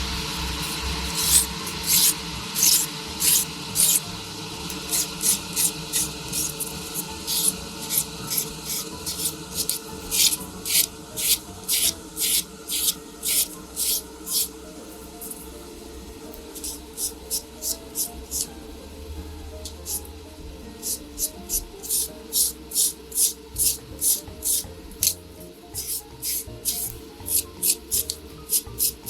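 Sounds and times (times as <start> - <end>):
rhythmic rasping sanding strokes: 0.0 - 18.7, 19.6 - 29.0.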